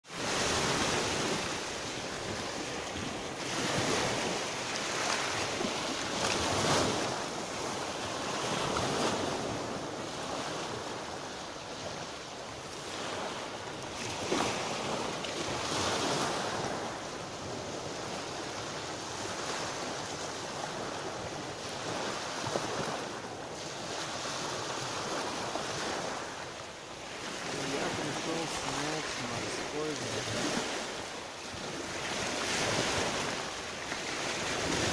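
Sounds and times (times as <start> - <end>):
surf washing onto shore: 0.0 - 34.9.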